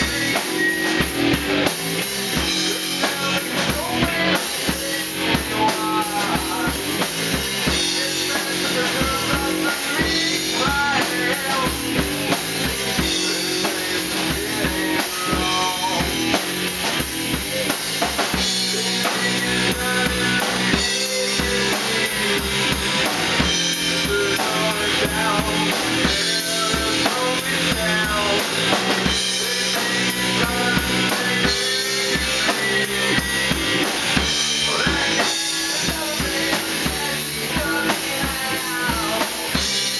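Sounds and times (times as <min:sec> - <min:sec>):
person singing into a microphone: 0:00.0 - 0:01.2, 0:02.3 - 0:39.9
drum kit beat: 0:00.0 - 0:39.9
electric guitars and bass: 0:00.0 - 0:39.9.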